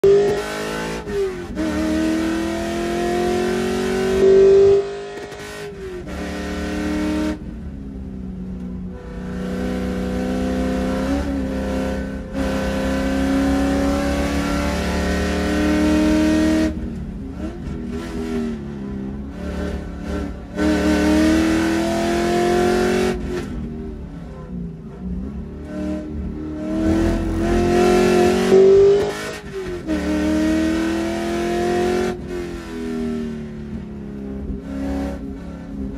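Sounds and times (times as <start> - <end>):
race car engine accelerating: 0.0 - 7.8, 8.5 - 35.9.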